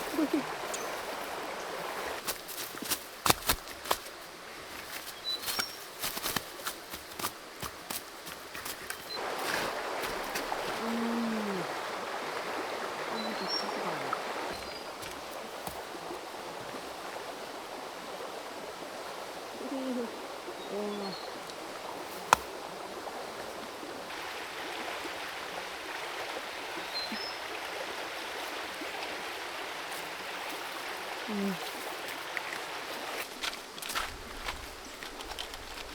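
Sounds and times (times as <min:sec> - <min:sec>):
creek water running over stones: 0:00.0 - 0:35.9.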